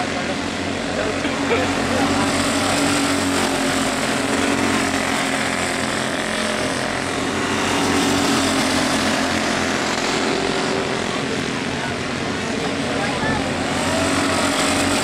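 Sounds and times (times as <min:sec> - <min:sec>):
small race car engines buzzing: 0:00.0 - 0:15.0.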